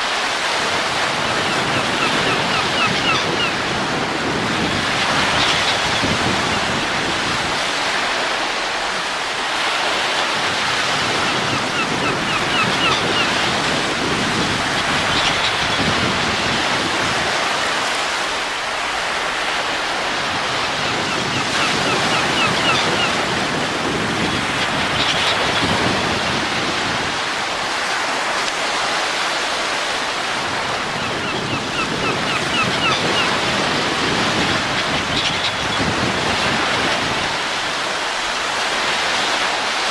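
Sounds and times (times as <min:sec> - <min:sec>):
steady wind: 0:00.0 - 0:39.9.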